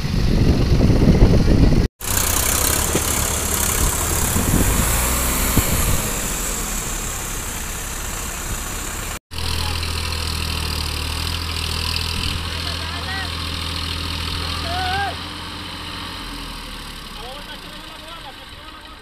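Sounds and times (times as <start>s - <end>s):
tractor diesel engine running: 0.0s - 19.0s
tractor engine low hum: 0.0s - 19.0s.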